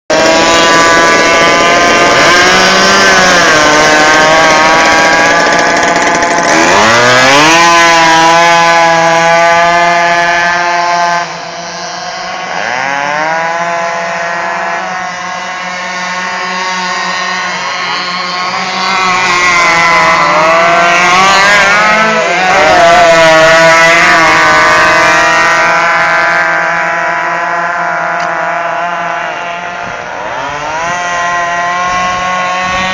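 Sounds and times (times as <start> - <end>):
model boat engine at high revs: 0.1 - 32.9.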